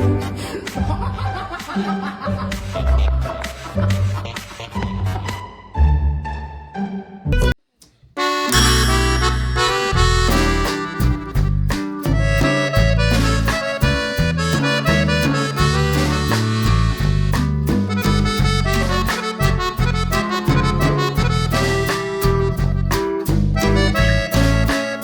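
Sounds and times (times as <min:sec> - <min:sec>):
lively instrumental music: 0:00.0 - 0:07.6, 0:08.2 - 0:25.0.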